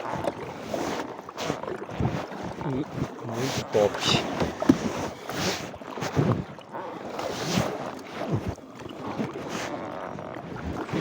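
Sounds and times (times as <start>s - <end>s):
kayak paddle splashing water: 0.0s - 11.0s.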